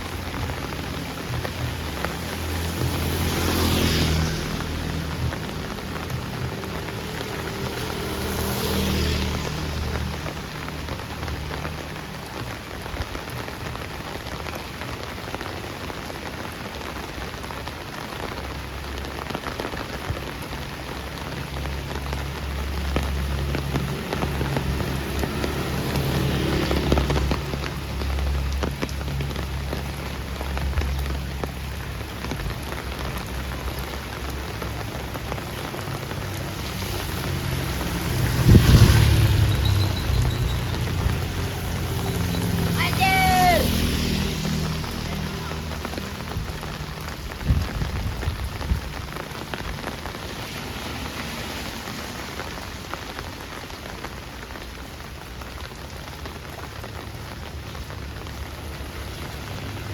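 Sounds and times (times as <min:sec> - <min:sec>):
heavy rain on a street: 0:00.0 - 0:59.9
passing traffic hum: 0:00.0 - 0:59.9.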